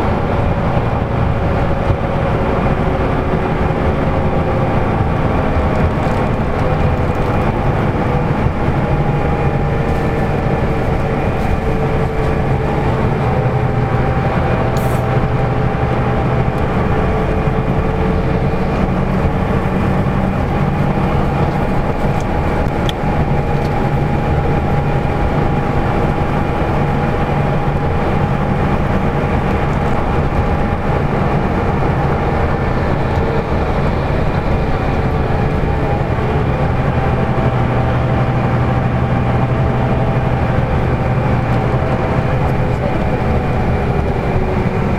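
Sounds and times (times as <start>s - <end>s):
bus engine and road drone: 0.0s - 44.9s
whine drifting in pitch: 0.0s - 44.9s.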